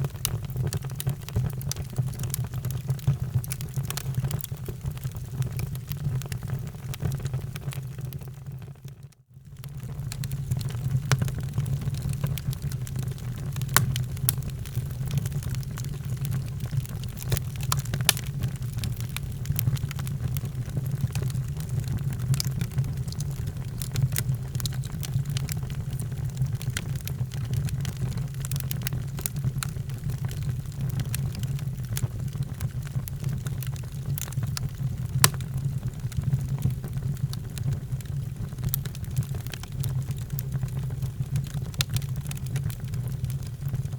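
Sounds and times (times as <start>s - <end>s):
wood fire crackling: 0.0s - 8.4s, 9.6s - 43.9s.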